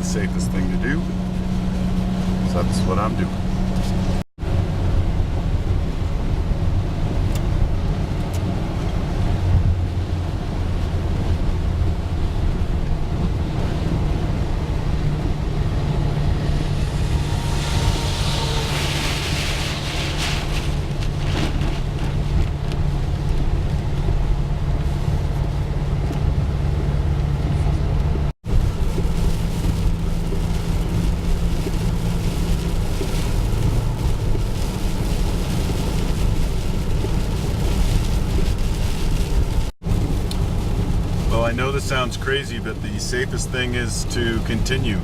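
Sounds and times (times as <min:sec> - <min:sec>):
tyre and road noise: 0:00.0 - 0:45.0
van engine hum: 0:00.0 - 0:45.0.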